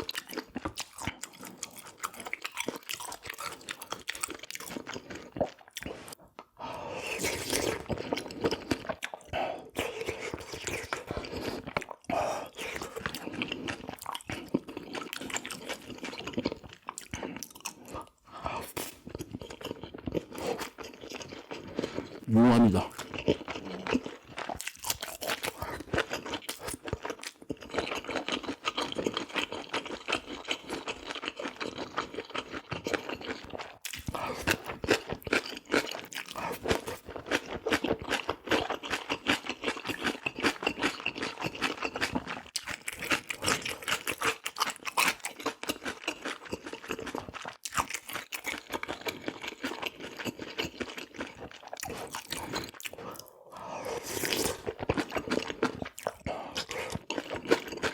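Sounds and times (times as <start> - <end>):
person chewing crunchy food: 0.0 - 57.9.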